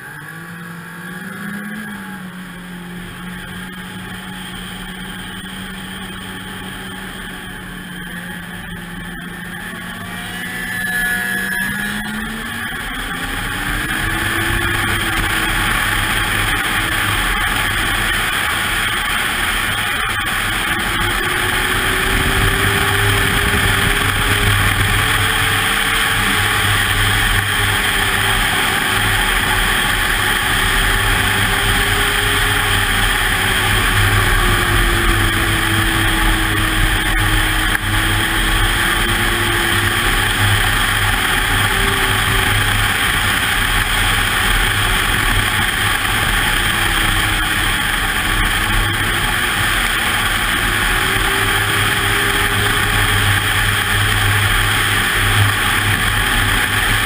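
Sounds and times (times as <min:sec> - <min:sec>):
snowmobile engine accelerating: 0:00.0 - 0:57.0
steady rushing noise: 0:00.0 - 0:57.0.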